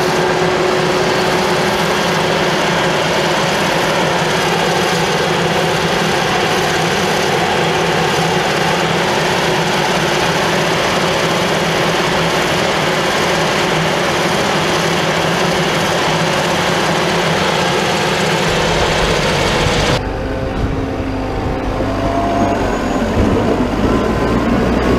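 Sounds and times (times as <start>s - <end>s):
forage harvester engine and chopping: 0.0s - 24.9s
tractor engine rumble: 0.0s - 24.9s.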